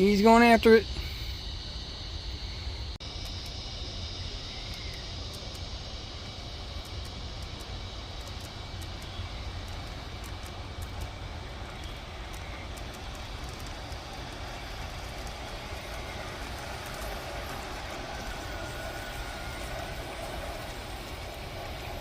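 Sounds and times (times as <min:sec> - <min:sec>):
faint whine: 0:00.0 - 0:22.0
model train rumbling on track: 0:00.0 - 0:22.0.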